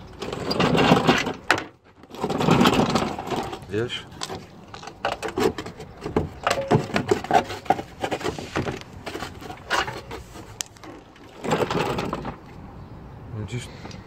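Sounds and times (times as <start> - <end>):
hands working bolts clicking and scraping: 0.0 - 12.6.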